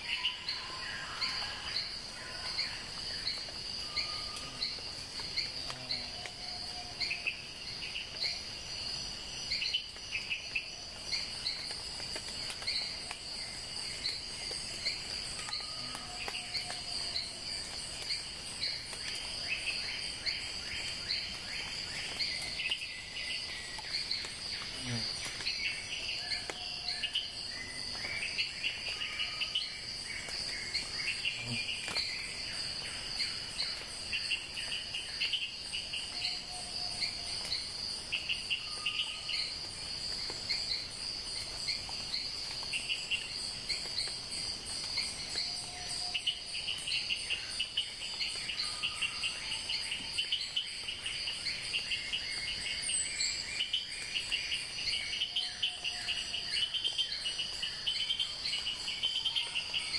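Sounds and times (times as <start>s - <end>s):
insects chirping: 0.0s - 59.9s
insects trilling: 0.0s - 59.9s.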